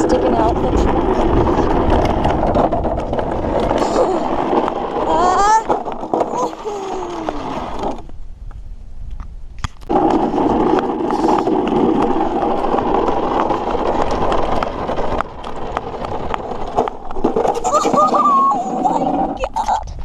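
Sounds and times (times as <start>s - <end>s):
toy truck rolling on pavement: 0.0s - 8.2s, 9.1s - 20.0s.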